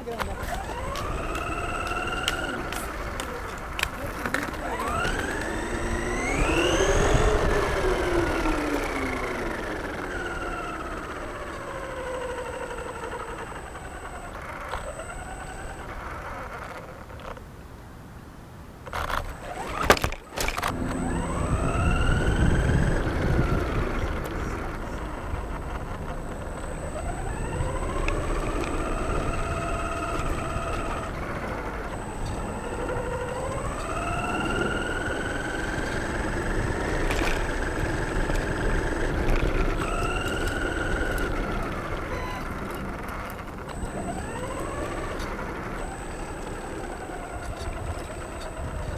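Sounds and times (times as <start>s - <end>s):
model car motor whining: 0.0s - 17.4s, 18.8s - 48.9s.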